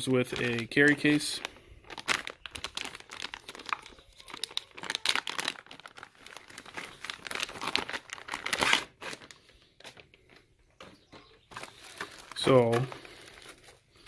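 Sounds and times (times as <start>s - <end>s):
plastic bag crinkling: 0.0s - 10.5s, 11.4s - 14.0s.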